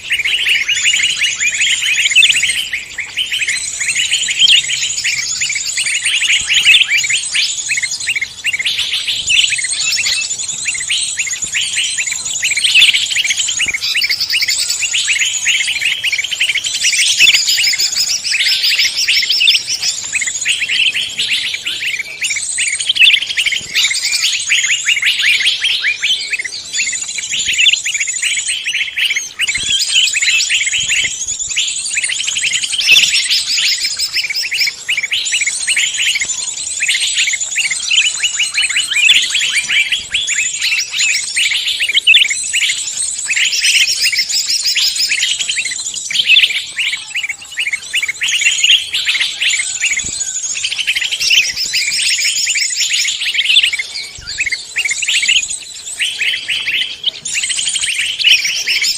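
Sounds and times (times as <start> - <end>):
chorus of songbirds: 0.0 - 58.9.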